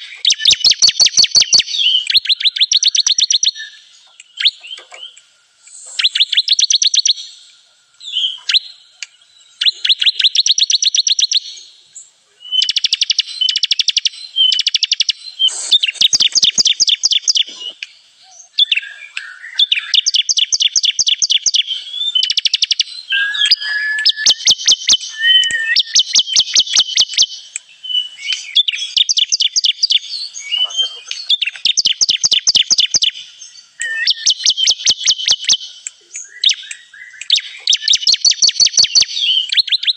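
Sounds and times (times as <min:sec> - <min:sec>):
bird trilling high chirps: 0:00.0 - 0:11.7, 0:12.4 - 0:39.9.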